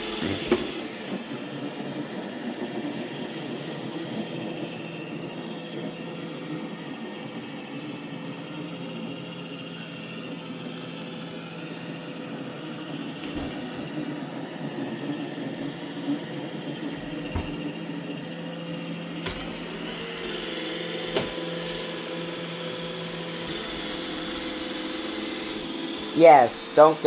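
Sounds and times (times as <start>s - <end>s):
robot vacuum running: 0.0s - 10.4s, 11.6s - 27.0s.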